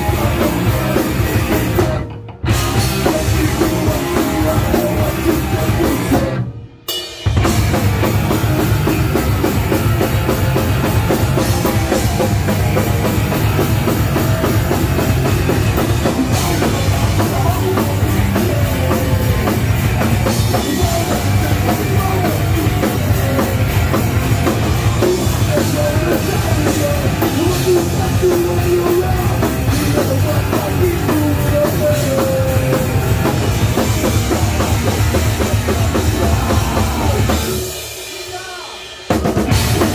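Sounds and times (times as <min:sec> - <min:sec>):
electric guitar: 0:00.0 - 0:38.2, 0:39.1 - 0:39.9
bass guitar: 0:00.0 - 0:38.5, 0:39.1 - 0:39.9
drum kit: 0:00.0 - 0:39.9.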